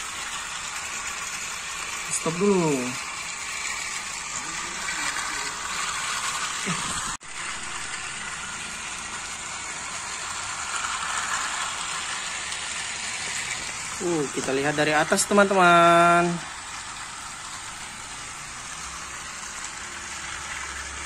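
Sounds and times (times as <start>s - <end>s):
toy train motor whirring and rattling: 0.0s - 21.0s.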